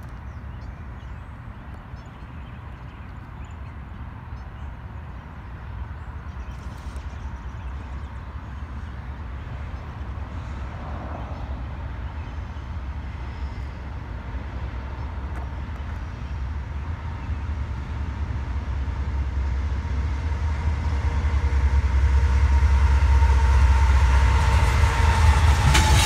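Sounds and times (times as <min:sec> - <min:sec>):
diesel locomotive rumble: 0:00.0 - 0:26.0.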